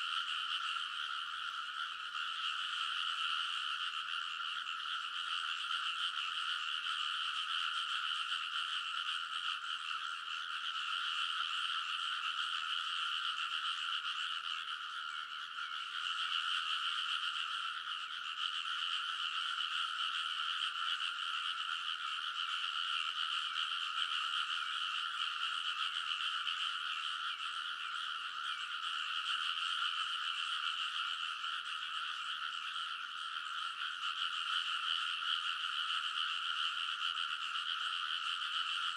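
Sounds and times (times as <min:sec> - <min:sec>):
chorus of frogs croaking: 0:00.0 - 0:38.9.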